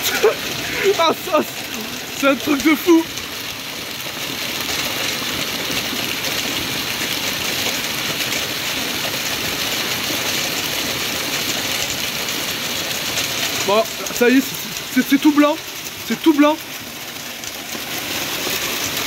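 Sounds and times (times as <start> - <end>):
hail pelting water and paving: 0.0 - 19.0.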